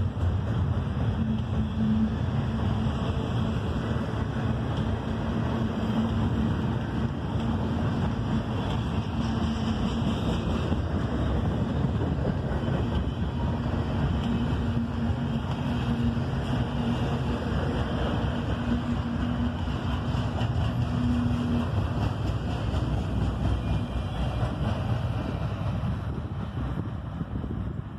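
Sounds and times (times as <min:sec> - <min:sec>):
steel wheels rumbling on rail: 0:00.0 - 0:27.9
wind buffeting microphone: 0:00.0 - 0:27.9.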